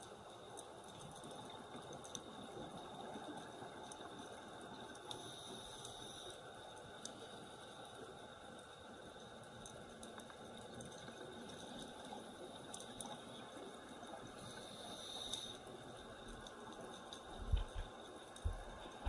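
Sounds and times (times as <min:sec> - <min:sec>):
underwater bubbling and gurgling: 0:00.0 - 0:19.0.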